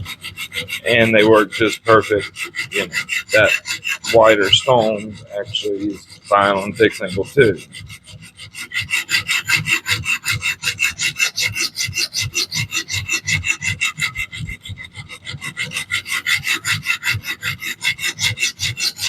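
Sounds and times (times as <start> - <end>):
knife rasping on sharpening stone: 0.0 - 19.0.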